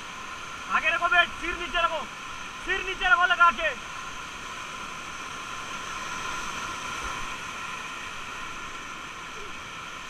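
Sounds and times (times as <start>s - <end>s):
whitewater rapids rushing: 0.0s - 10.0s.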